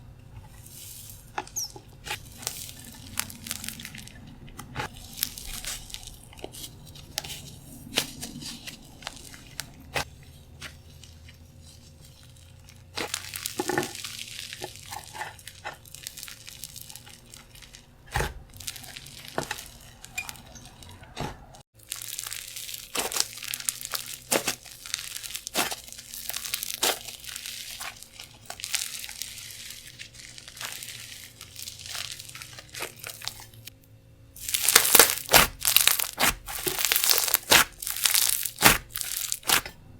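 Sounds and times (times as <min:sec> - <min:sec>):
slime crackling and popping: 0:00.7 - 0:21.2, 0:21.8 - 0:33.7, 0:34.4 - 0:39.8.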